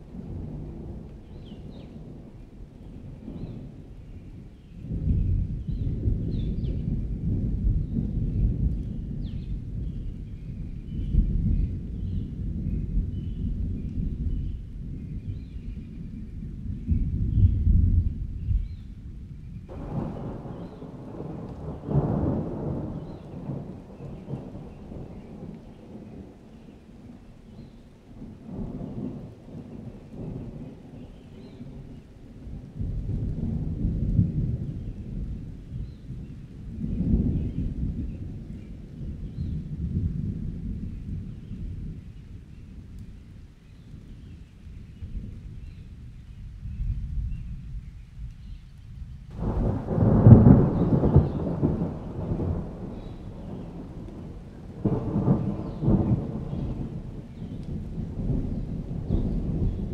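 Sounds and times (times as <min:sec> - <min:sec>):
thunder rumbling: 0:00.0 - 0:59.9.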